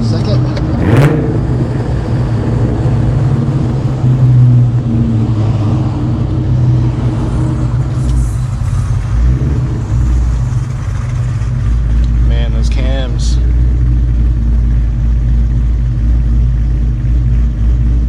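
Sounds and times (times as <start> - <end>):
supercharged car engine running: 0.0 - 18.0.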